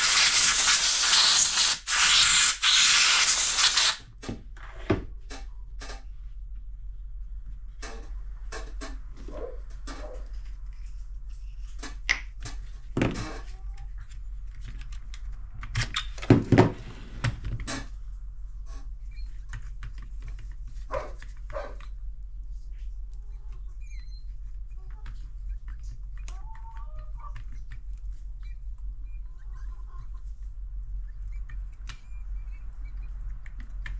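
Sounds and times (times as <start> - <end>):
steady low hum: 4.0 - 33.9.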